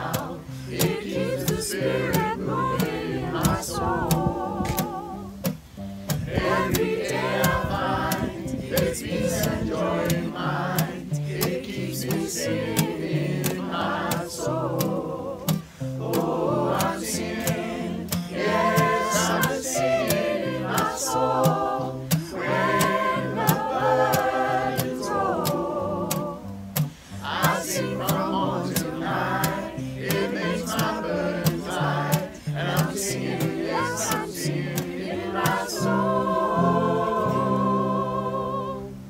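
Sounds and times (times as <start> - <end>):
steady beat: 0.0 - 36.2
gospel choir singing: 0.0 - 39.0.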